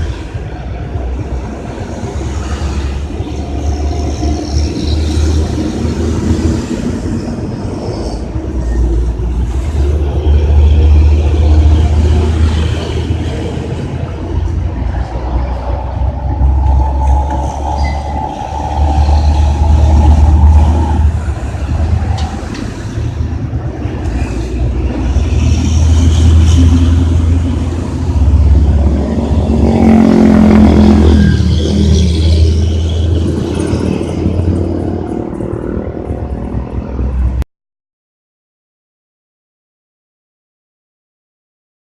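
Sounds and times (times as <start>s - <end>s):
diesel truck engine revving: 0.0s - 37.4s.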